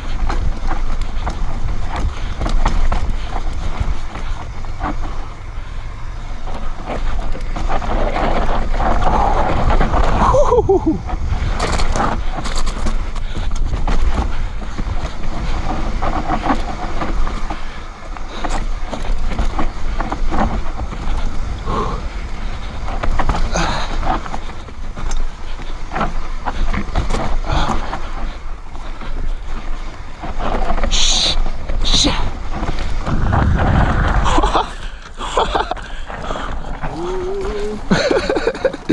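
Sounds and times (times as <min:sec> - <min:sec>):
bike knocking and rattling: 0:00.0 - 0:38.9
bike tyres rolling over dirt: 0:00.0 - 0:38.9
wind rumbling on microphone: 0:00.0 - 0:38.9.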